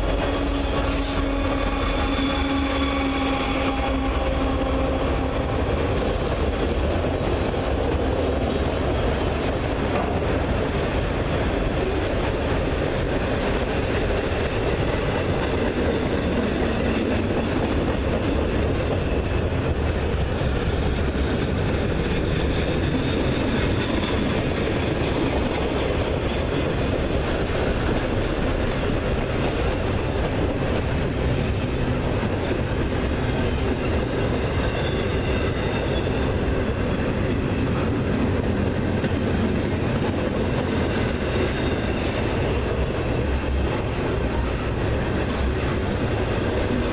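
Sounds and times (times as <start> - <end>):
train wheels clickety-clack: 0.0 - 46.9.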